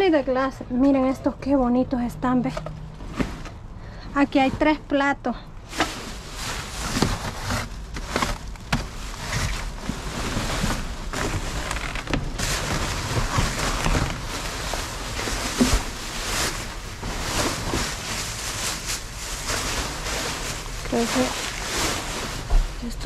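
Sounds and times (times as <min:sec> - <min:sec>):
rustling through trash: 0:02.4 - 0:23.0.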